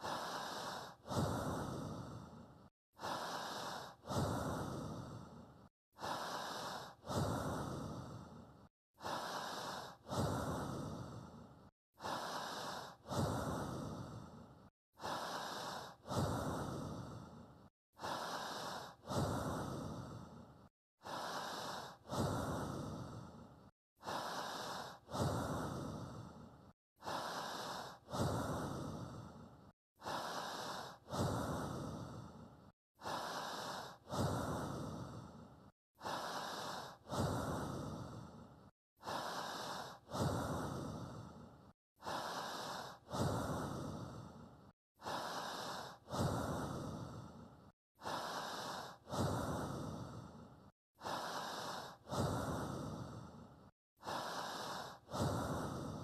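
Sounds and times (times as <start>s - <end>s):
person breathing: 0.0s - 56.0s.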